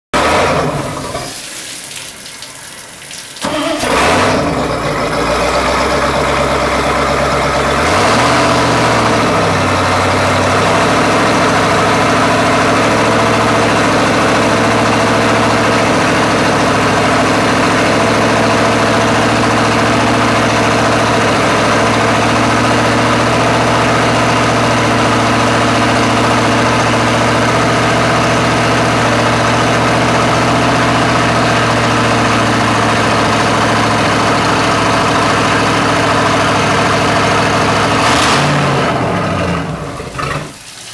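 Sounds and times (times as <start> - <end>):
boat engine revving and idling: 0.1 - 1.2, 3.4 - 40.6.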